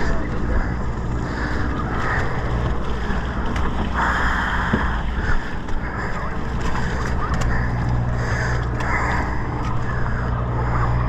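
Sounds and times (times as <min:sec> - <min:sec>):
boat engine droning: 0:00.0 - 0:11.0
rushing water: 0:00.0 - 0:11.0.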